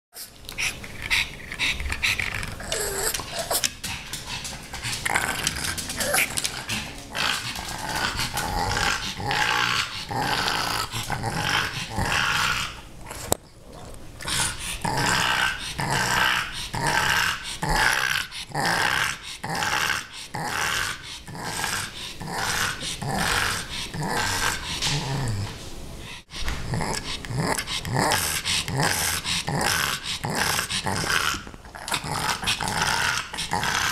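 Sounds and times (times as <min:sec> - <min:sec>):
dog growly play noises: 0:00.6 - 0:33.9.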